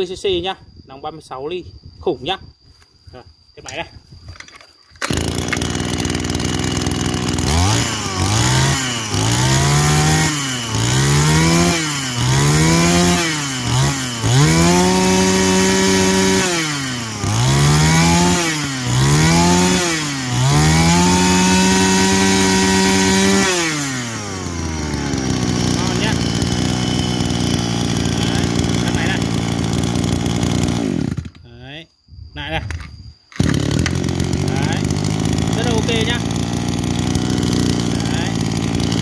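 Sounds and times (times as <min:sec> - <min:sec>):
brush-cutter engine revving: 0:05.0 - 0:31.4, 0:33.3 - 0:39.0.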